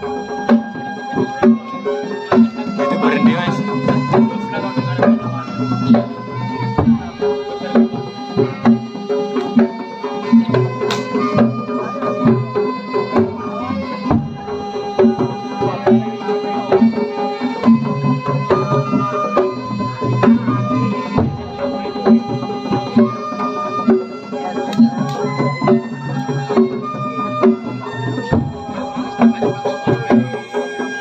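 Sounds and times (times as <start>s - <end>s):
hand drums beating: 0.0s - 31.0s
metallophones: 0.0s - 31.0s.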